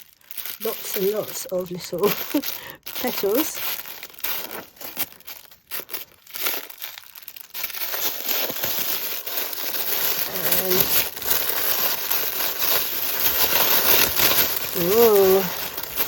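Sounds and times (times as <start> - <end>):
paper and packaging crinkling: 0.0 - 16.0.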